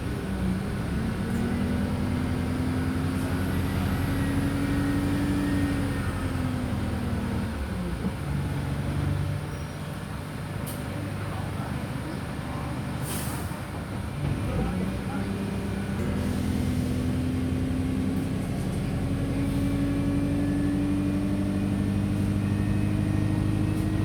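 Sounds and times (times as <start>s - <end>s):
bus diesel engine accelerating: 0.0s - 24.0s.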